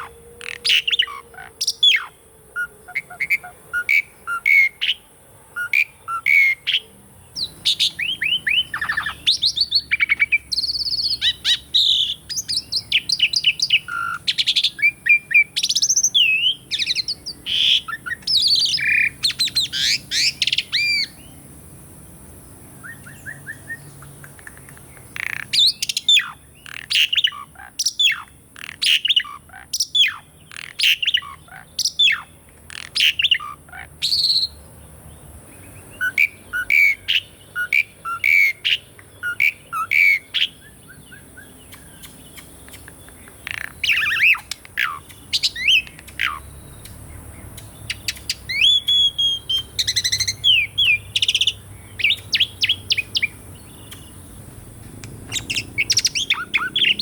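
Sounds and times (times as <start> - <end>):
starling singing: 0.0 - 21.4, 22.8 - 34.6, 35.6 - 57.0.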